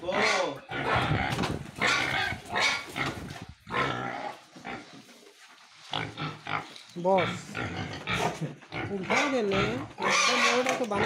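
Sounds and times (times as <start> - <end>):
pigs grunting: 0.0 - 5.1, 5.9 - 11.0.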